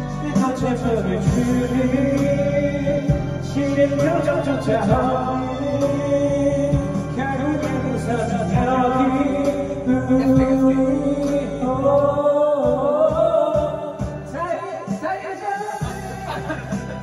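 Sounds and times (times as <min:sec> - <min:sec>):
karaoke backing track with beat: 0:00.0 - 0:17.0
man singing into a microphone: 0:00.0 - 0:17.0.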